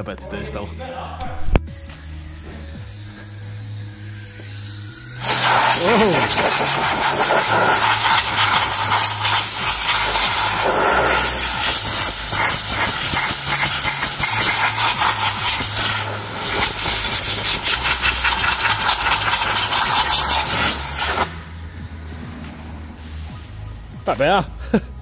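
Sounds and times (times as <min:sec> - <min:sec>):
compressed air blow gun hissing: 0:02.0 - 0:25.0.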